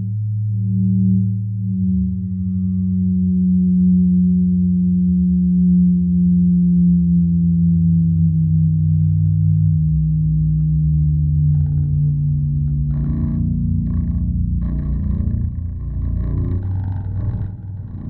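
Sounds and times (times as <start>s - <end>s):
electric bass sustained tones: 0.0s - 18.0s.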